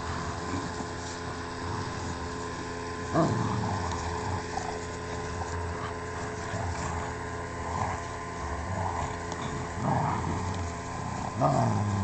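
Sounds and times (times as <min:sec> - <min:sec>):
dogs growling: 0:00.0 - 0:12.0
steady hum: 0:00.0 - 0:12.0.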